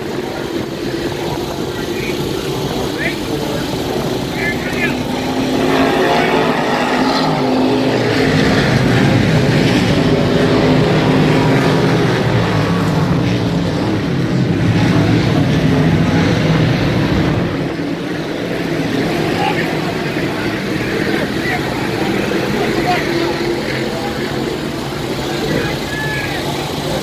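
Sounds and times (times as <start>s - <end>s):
race car engines droning: 0.0s - 27.0s.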